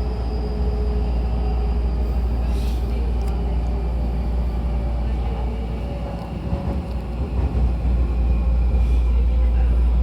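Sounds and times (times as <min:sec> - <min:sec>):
train wheels and motors rumbling: 0:00.0 - 0:10.0.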